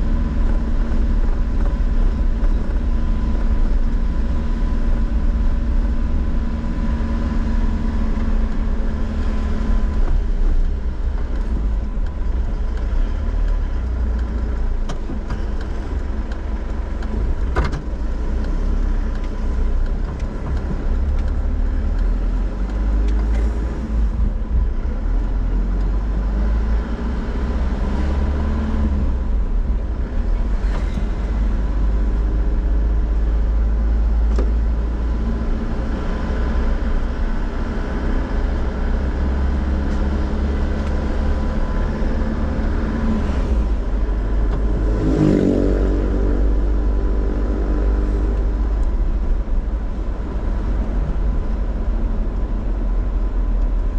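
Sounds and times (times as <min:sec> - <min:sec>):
road and engine rumble: 0:00.0 - 0:53.9.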